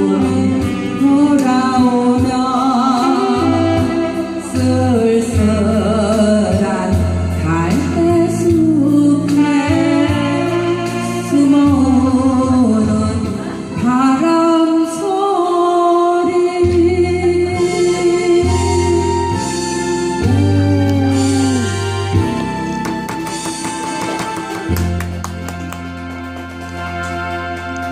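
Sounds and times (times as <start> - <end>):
woman singing slow song: 0.0 - 22.5
instrumental accompaniment with bass: 0.0 - 27.9.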